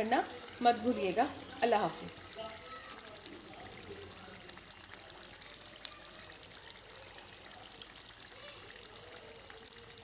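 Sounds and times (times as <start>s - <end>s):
gravy bubbling and sizzling in a pan: 0.0s - 10.0s.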